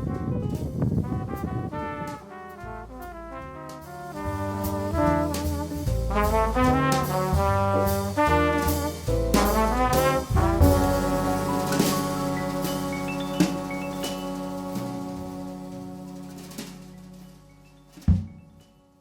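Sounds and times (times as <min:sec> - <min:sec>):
brass-led tune with a beat: 0:00.0 - 0:18.1.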